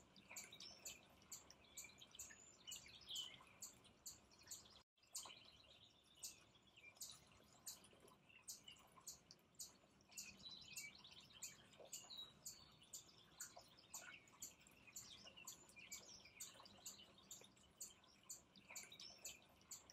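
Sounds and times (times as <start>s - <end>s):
faint bird chirps: 0.0s - 19.9s
fountain water trickling: 0.0s - 19.9s.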